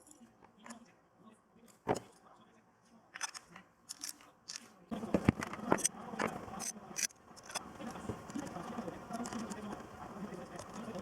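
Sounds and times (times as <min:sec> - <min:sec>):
rough background noise: 0:00.0 - 0:11.0.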